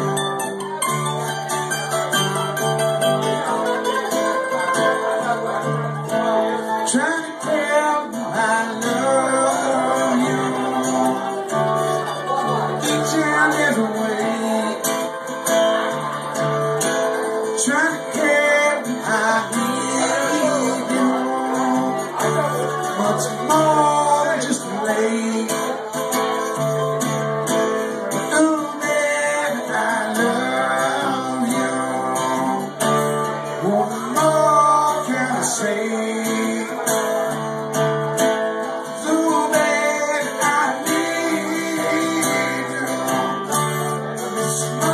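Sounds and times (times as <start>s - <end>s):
acoustic guitar strummed: 0.0s - 44.9s
picked mandolin: 0.0s - 44.9s.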